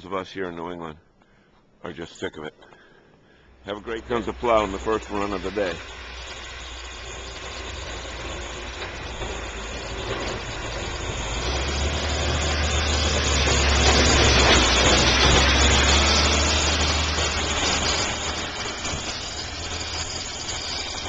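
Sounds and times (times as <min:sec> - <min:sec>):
road noise: 0:03.5 - 0:21.0
snowplow truck engine: 0:03.6 - 0:21.0.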